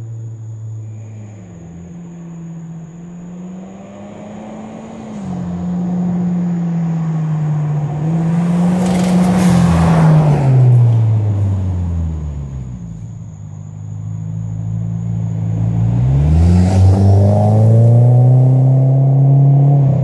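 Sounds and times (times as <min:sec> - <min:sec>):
turbocharged car engine passing: 0:00.8 - 0:13.0, 0:14.6 - 0:20.0.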